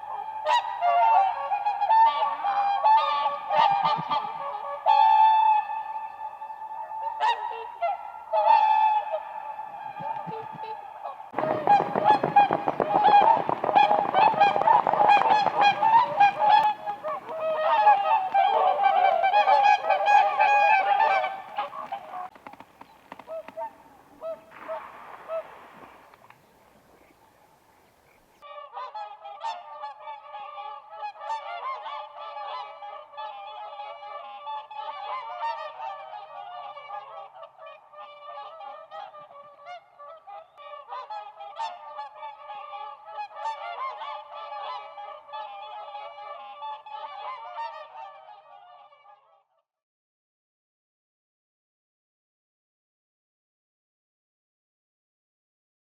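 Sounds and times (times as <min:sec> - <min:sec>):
swans honking: 0:00.0 - 0:49.2
chorus of swans honking: 0:00.0 - 0:49.4.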